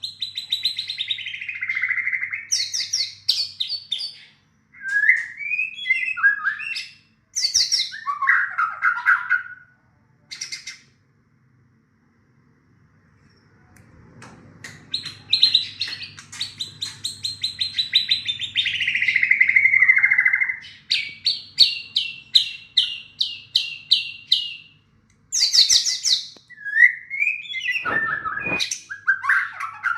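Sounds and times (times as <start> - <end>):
songbird singing: 0.0 - 9.7, 14.6 - 29.9.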